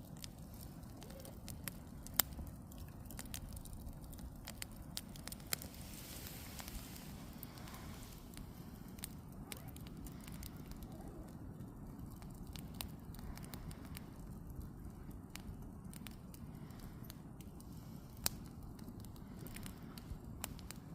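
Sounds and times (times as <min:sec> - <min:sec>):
firewood crackling and popping: 0:00.0 - 0:20.9
low rumble of fire: 0:00.0 - 0:20.9.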